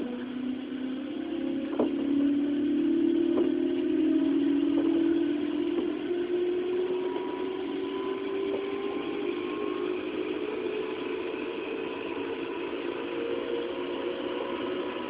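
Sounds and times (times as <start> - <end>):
train traction motor whine: 0.0 - 15.0
wheel and rail noise: 0.0 - 15.0.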